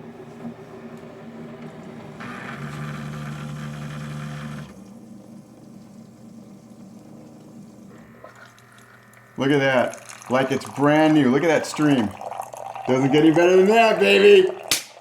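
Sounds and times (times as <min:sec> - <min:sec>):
coffee maker pump humming: 0:00.0 - 0:15.0.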